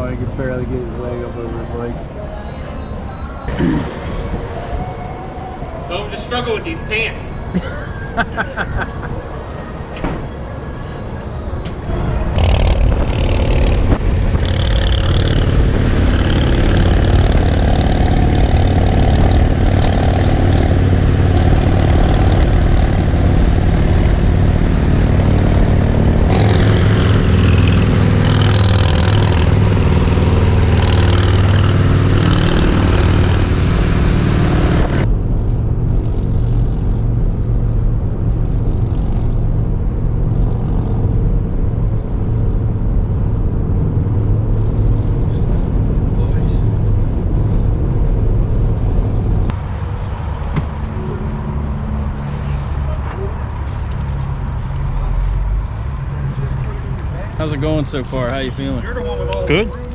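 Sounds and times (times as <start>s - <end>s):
motorcycle engines running: 11.8s - 59.9s.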